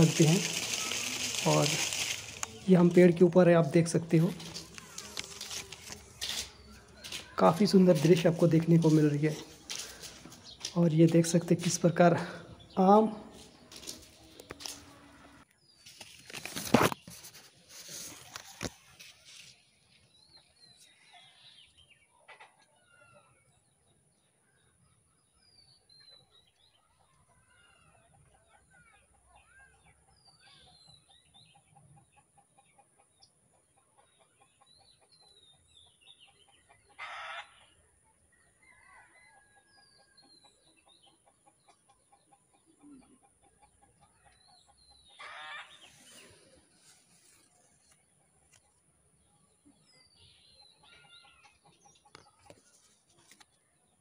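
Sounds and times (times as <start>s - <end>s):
birds chirping: 0.0s - 28.1s, 38.7s - 54.0s.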